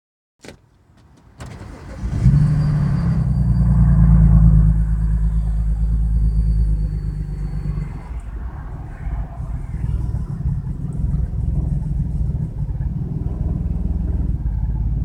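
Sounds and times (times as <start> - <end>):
engine cranking: 0.4 - 15.0
car engine idling: 0.5 - 15.0
high-pitched screech: 1.8 - 14.9.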